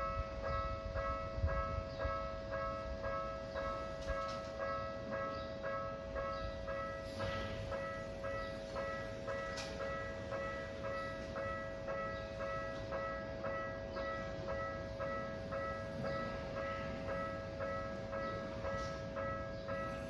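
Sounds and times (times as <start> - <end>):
level-crossing alarm ringing: 0.0 - 20.0
train rumbling past: 0.0 - 20.0.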